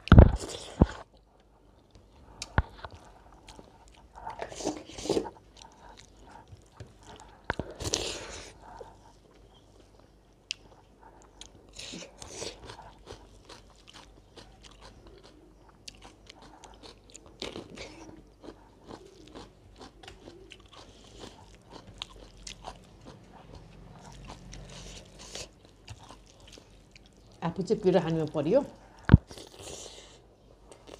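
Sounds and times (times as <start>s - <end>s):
person chewing and crunching food: 0.0s - 30.9s.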